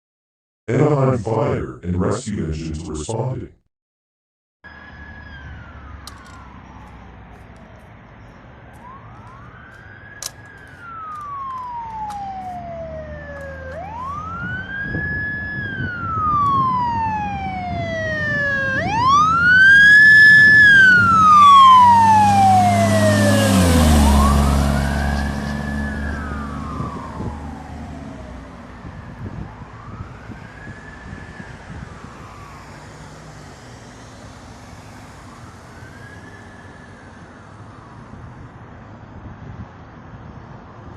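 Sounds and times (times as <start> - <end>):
fire engine siren wailing: 4.6 - 38.6
fire engine drone: 4.7 - 40.9.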